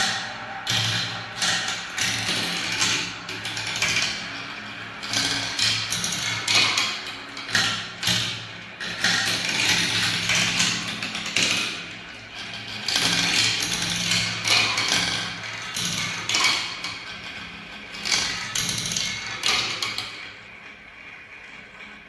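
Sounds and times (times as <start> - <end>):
balls clicking on track: 0.0 - 22.0
balls rolling on marble run: 0.0 - 22.0.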